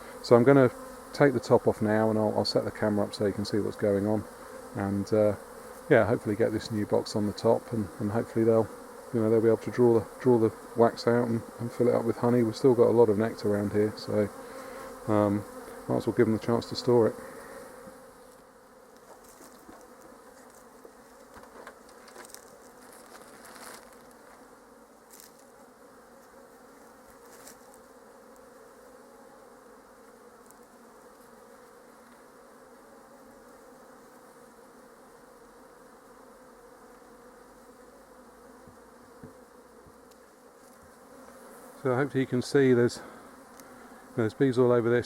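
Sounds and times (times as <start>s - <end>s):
honeybees humming: 0.0s - 45.0s.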